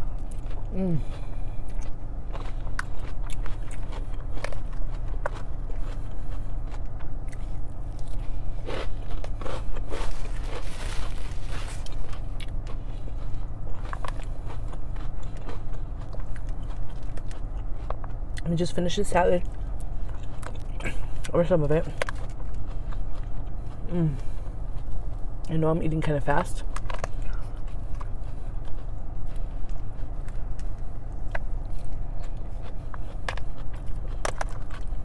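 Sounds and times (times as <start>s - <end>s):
chewing and crunching salad: 0.0s - 35.0s
steady low hum: 0.0s - 35.0s.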